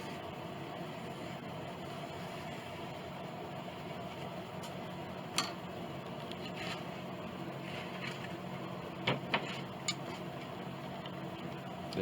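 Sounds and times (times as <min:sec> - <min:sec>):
steady shop hum: 0:00.0 - 0:12.0.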